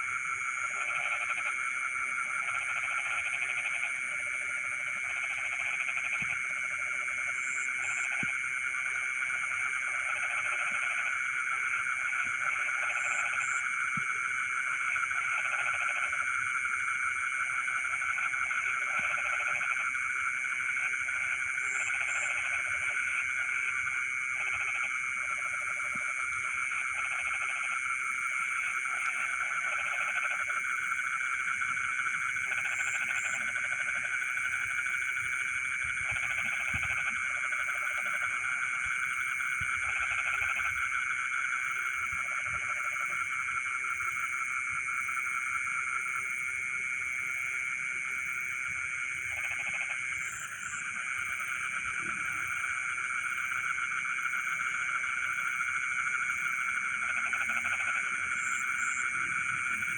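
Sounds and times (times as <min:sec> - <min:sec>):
frogs trilling: 0:00.0 - 0:59.9
low frog calls: 0:00.0 - 0:59.9.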